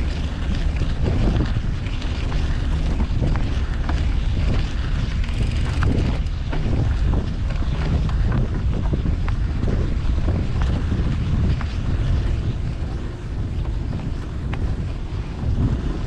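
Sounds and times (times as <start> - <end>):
street traffic: 0.0 - 16.0
wind buffeting microphone: 0.0 - 16.0.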